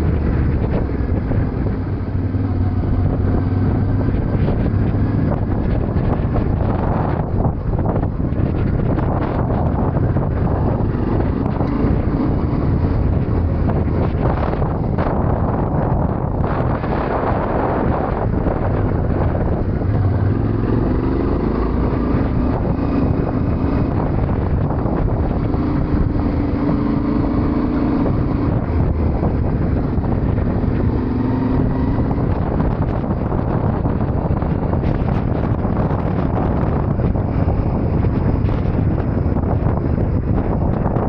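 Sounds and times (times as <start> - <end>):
motorcycle engine accelerating: 0.0 - 41.0
wind buffeting microphone: 0.0 - 41.0.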